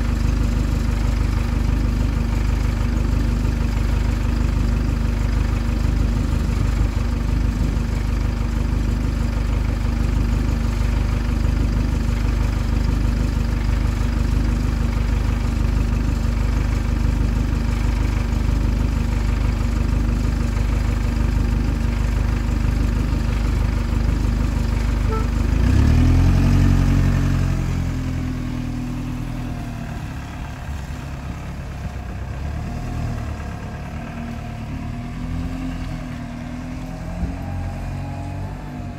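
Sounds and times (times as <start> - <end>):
bus diesel engine idling: 0.0 - 38.9
bus revving and driving off: 0.0 - 38.9.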